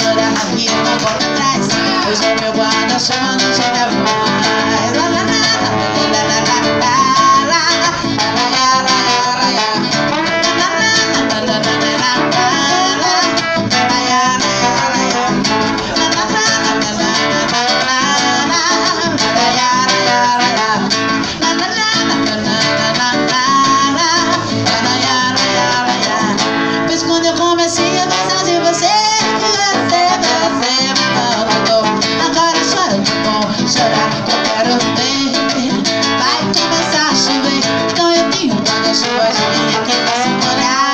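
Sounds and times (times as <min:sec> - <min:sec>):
strummed acoustic guitar: 0:00.0 - 0:40.9
trombone melody: 0:00.0 - 0:40.9.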